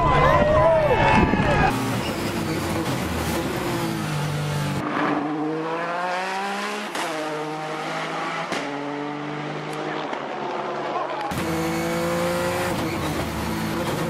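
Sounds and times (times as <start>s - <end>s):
race car engine accelerating: 1.7s - 14.0s
race car passing: 1.8s - 14.0s.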